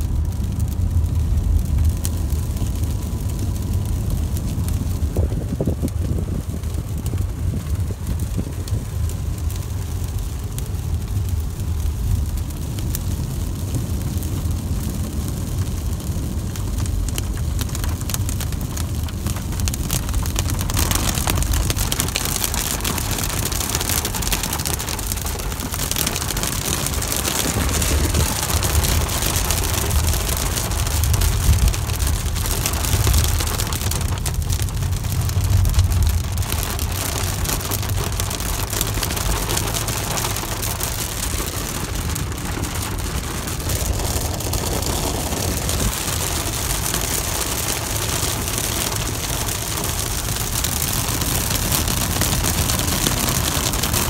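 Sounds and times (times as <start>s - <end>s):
rain beating on a car: 0.0s - 54.0s
wind and road rumble: 0.0s - 54.0s.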